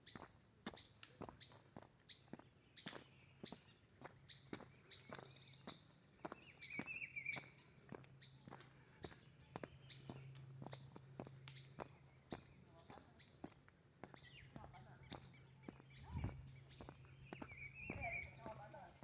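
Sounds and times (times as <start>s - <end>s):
bird chirp: 0.0s - 19.0s
faint footsteps walking: 0.1s - 19.0s.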